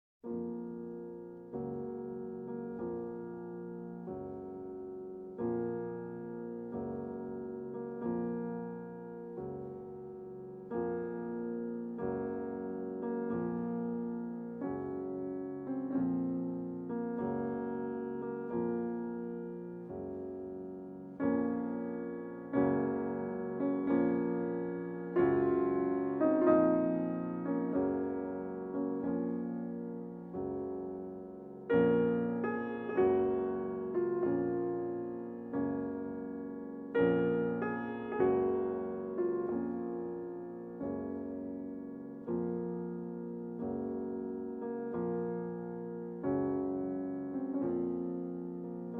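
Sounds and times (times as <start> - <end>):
slow piano chords: 0.2 - 48.9.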